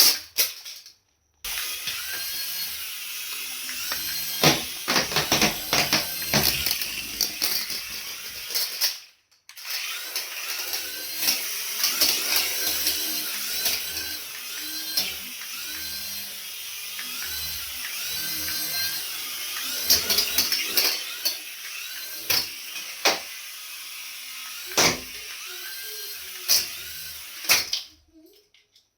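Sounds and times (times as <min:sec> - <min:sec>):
toy motor and gears whirring: 0:00.0 - 0:28.9.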